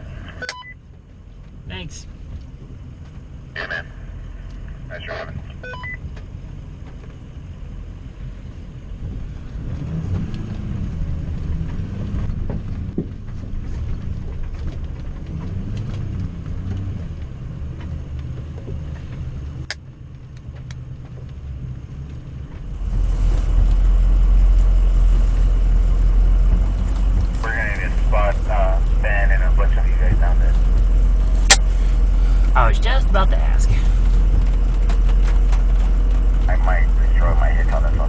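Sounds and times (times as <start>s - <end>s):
loud deep rumble: 0.0s - 38.0s
truck engine droning: 0.0s - 38.0s.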